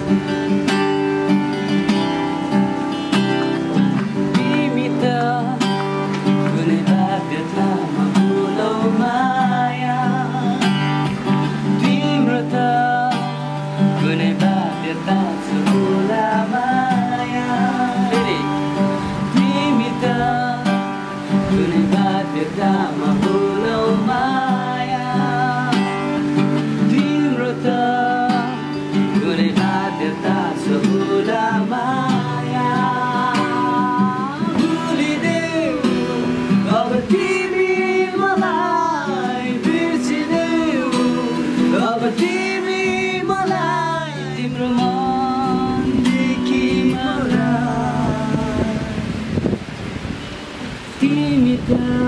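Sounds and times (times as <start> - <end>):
strummed acoustic guitar: 0.0 - 52.0
man singing: 3.2 - 49.4, 50.8 - 52.0.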